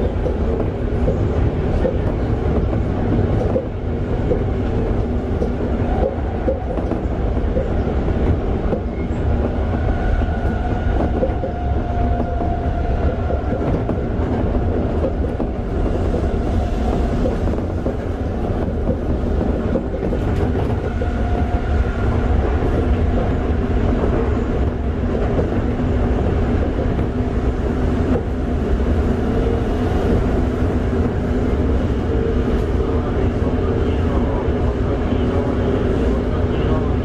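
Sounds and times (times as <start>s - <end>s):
train clatter: 0.0s - 37.0s
train wheels rumbling on rail: 0.0s - 37.0s.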